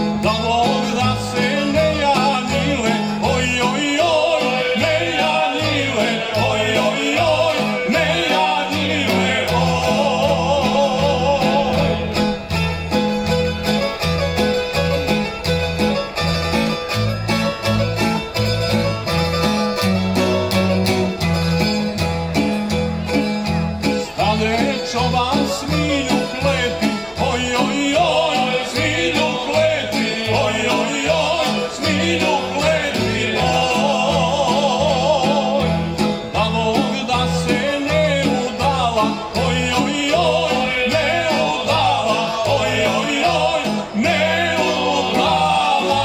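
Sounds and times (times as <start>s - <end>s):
man singing with vibrato: 0.0s - 46.0s
plucked string ensemble: 0.0s - 46.0s.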